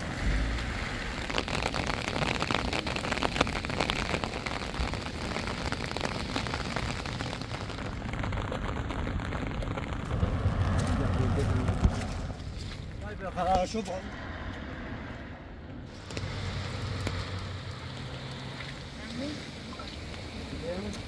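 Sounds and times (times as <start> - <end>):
rain falling: 0.0 - 13.9, 15.9 - 21.0.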